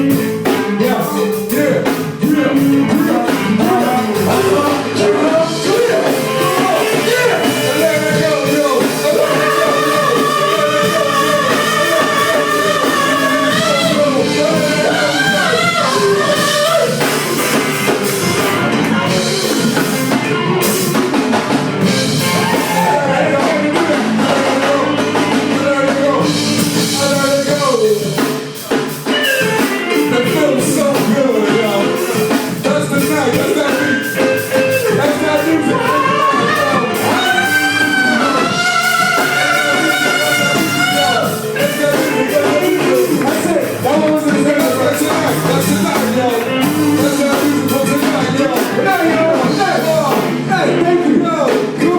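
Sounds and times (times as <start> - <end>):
person singing: 0.0 - 51.9
rock band playing: 0.0 - 51.9.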